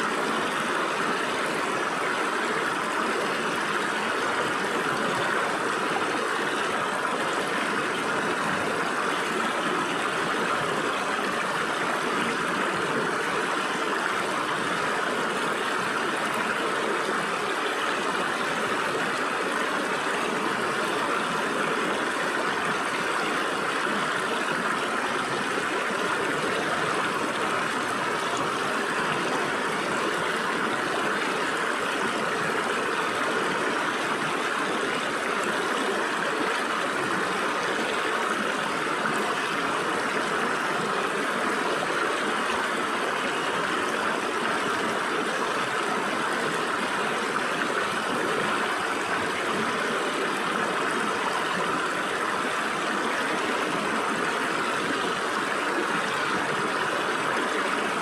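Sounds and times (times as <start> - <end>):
stream water splashing over rocks: 0.0 - 58.0.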